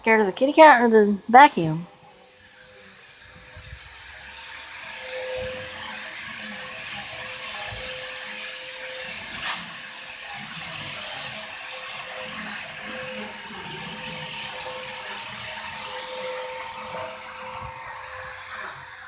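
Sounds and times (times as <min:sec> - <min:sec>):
vacuum cleaner running: 0:02.0 - 0:19.0.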